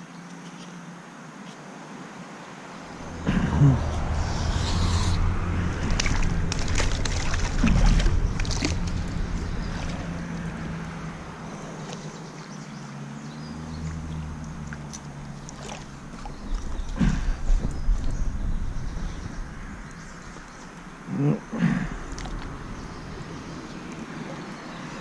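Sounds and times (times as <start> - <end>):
river water splashing: 2.7 - 25.0.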